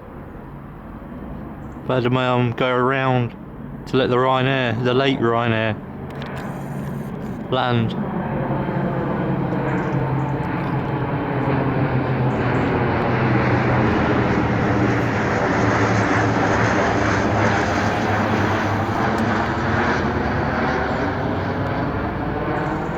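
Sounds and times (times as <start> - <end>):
jet aircraft engines: 0.0 - 22.9.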